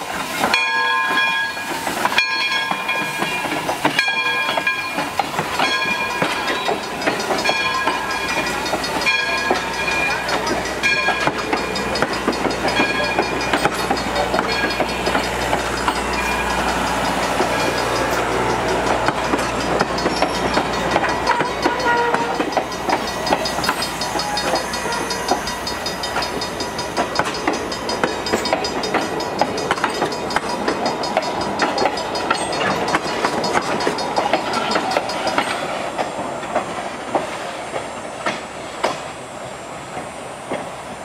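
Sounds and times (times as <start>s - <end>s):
train wheels clattering over rail joints: 0.0s - 39.2s
train rumble: 0.0s - 41.0s.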